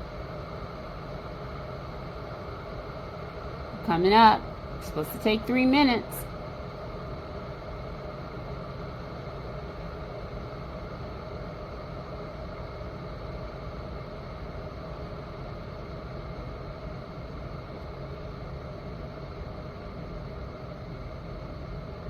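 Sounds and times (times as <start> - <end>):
electric kettle heating water: 0.0 - 22.0.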